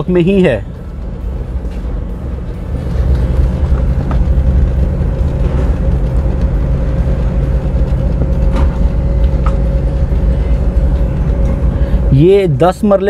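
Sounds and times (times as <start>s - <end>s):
thin steady hum: 0.0s - 13.0s
vehicle driving rumble: 0.0s - 13.0s.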